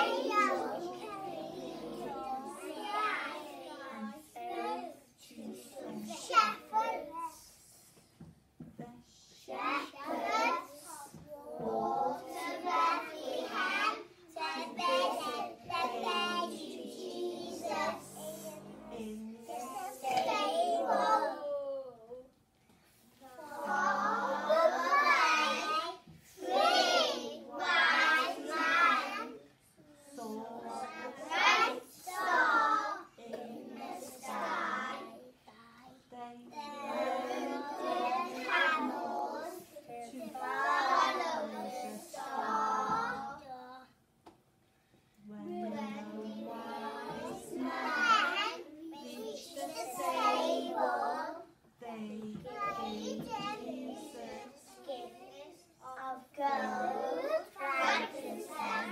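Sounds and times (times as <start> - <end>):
children singing together: 0.0 - 7.8, 9.1 - 21.8, 23.2 - 35.4, 36.4 - 43.8, 45.5 - 51.6, 52.2 - 58.9.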